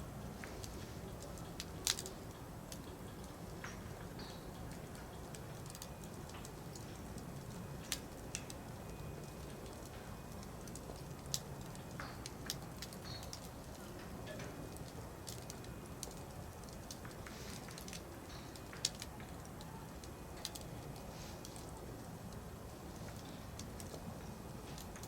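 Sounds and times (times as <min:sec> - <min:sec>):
wood fire crackling: 0:00.0 - 0:25.0
firewood popping: 0:00.2 - 0:25.0.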